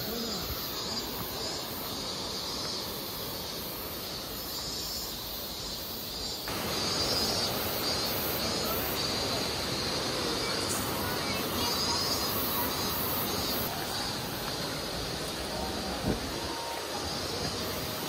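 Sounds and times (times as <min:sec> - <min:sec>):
high insect drone: 0:00.0 - 0:18.0
river rushing: 0:00.0 - 0:18.0.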